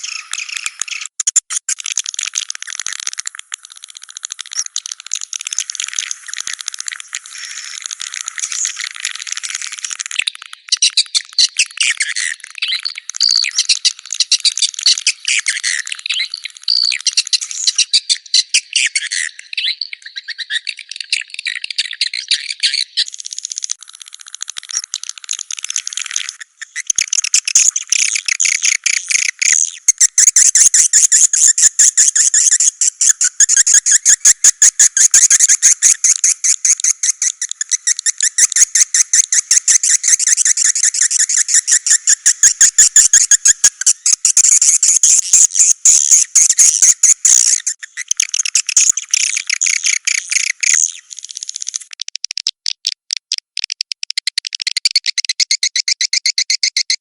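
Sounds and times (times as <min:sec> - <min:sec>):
swiftlet twittering calls: 0:00.0 - 0:51.9.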